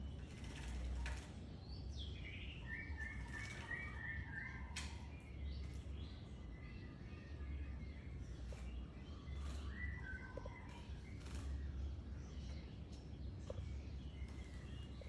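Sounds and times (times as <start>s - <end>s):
bird singing: 0.0s - 15.0s
low steady hum: 0.0s - 15.0s.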